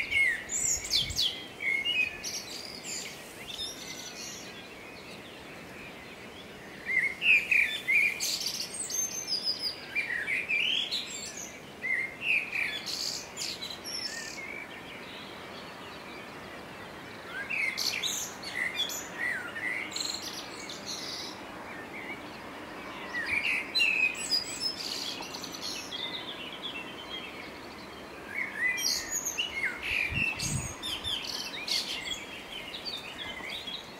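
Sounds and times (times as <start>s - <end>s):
faint background hiss: 0.0s - 33.9s
songbirds singing: 0.0s - 33.9s.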